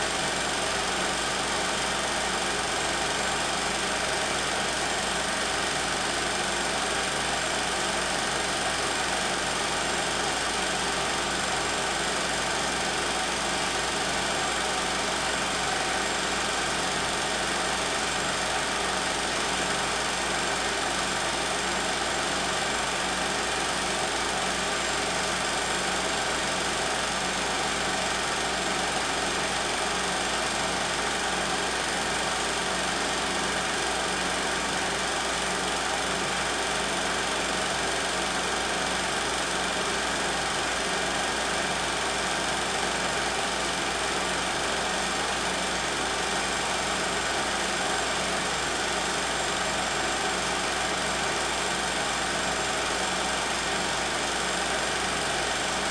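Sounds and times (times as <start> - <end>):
film projector whirring: 0.0 - 55.9.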